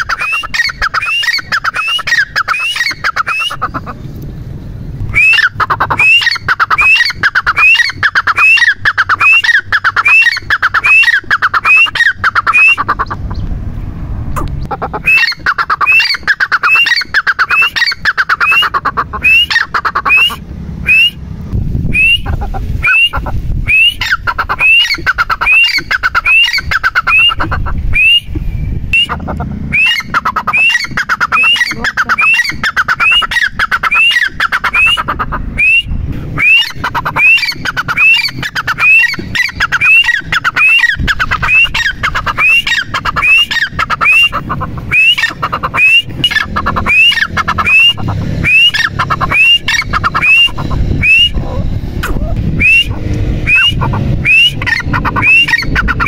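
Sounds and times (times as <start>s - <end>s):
francolin calling: 0.0s - 4.0s, 5.1s - 13.4s, 14.5s - 21.2s, 21.9s - 28.4s, 29.0s - 51.6s, 52.6s - 56.0s.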